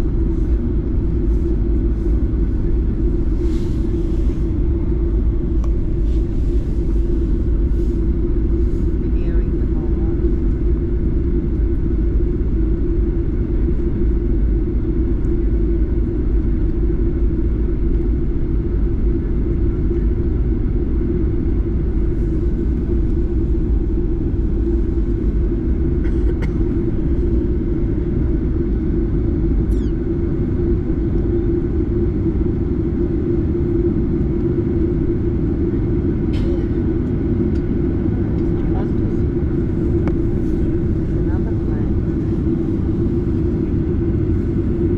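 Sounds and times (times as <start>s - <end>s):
jet engines rumbling in cabin: 0.0s - 44.9s.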